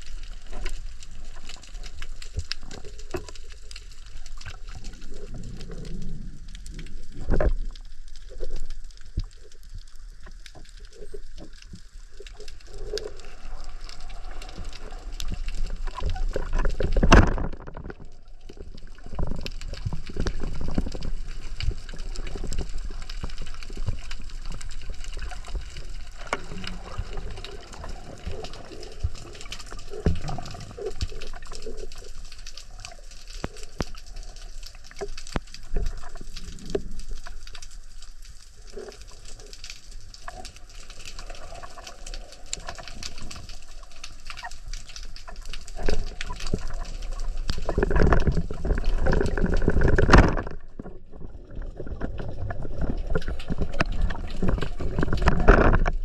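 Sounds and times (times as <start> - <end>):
water moving underwater: 0.0 - 56.0.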